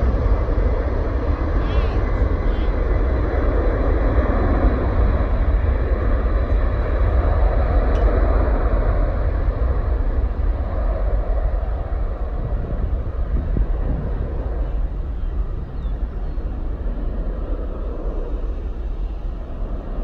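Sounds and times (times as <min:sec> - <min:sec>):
distant jet engines roaring: 0:00.0 - 0:20.0
wind buffeting microphone: 0:00.0 - 0:20.0.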